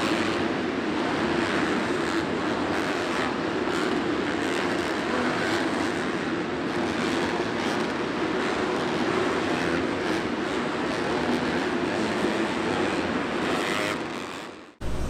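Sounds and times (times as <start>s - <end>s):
dirt bike engines racing: 0.0s - 14.5s.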